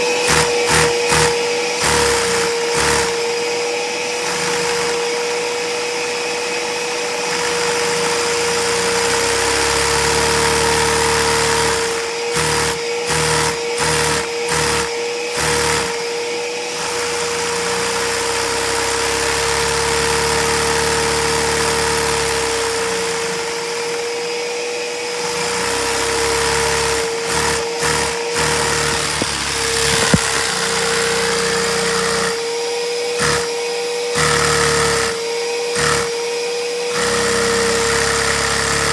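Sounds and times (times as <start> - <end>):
vacuum cleaner whine: 0.0 - 38.9.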